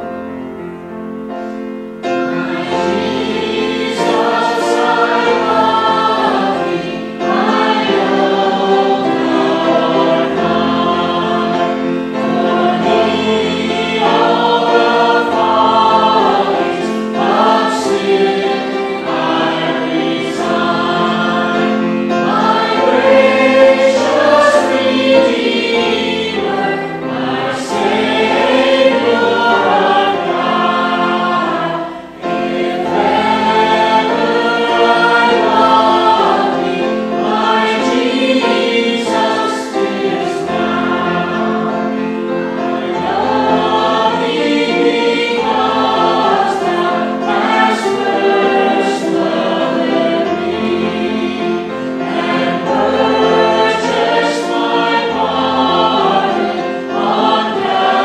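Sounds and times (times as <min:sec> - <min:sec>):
piano accompaniment: 0:00.0 - 0:58.0
vocal quartet singing a hymn: 0:00.0 - 0:58.0.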